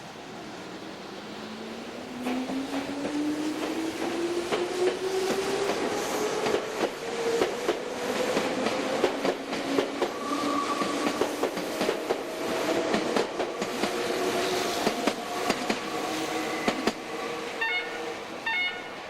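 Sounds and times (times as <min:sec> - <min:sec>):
electric train running past: 0:00.0 - 0:19.0.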